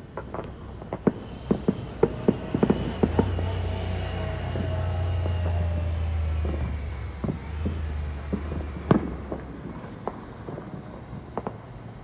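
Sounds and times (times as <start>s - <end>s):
fireworks popping and banging: 0.0s - 12.0s
vehicle engine passing: 1.1s - 11.2s.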